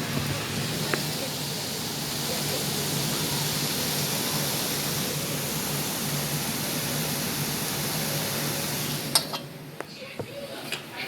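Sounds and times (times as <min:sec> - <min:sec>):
heavy rain pouring: 0:00.0 - 0:09.2.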